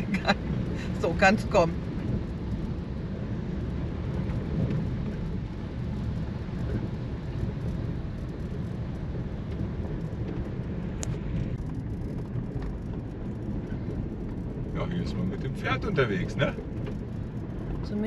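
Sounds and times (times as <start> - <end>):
car driving low rumble: 0.0 - 18.0.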